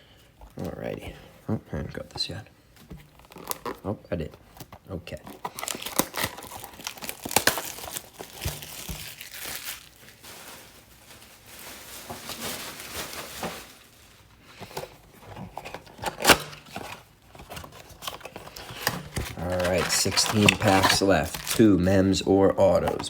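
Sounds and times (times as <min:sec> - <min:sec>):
packaging rustling: 0:00.4 - 0:23.0
plastic wrapping crinkling and tearing: 0:02.0 - 0:23.0.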